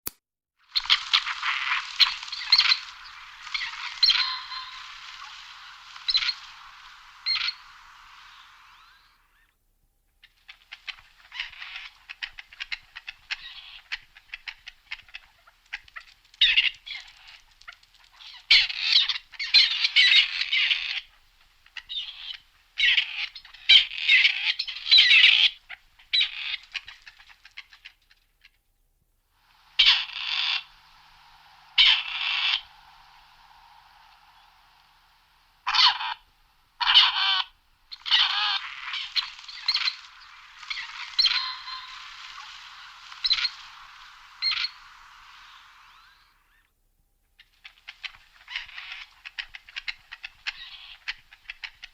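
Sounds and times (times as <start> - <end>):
partridge calling: 0.7 - 9.5, 10.3 - 28.1, 29.5 - 46.7, 47.4 - 51.9.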